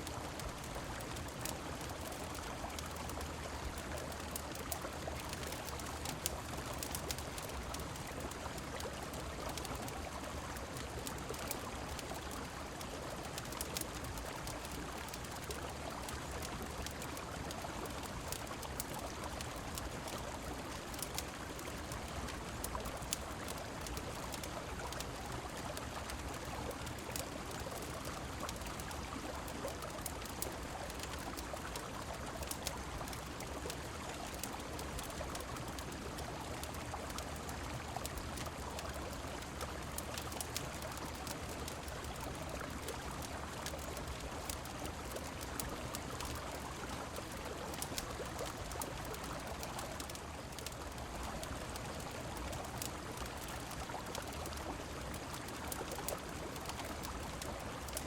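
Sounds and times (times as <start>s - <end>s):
flowing river: 0.0s - 58.0s
rain: 0.0s - 58.0s.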